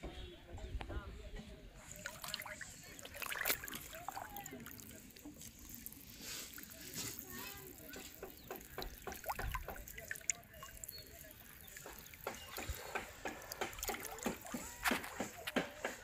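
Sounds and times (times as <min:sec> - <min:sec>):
water lapping against a boat: 0:01.8 - 0:16.0.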